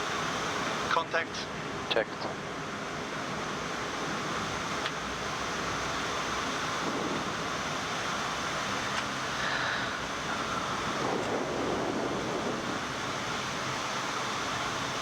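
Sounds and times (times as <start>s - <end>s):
cockpit airflow rushing: 2.9s - 15.0s.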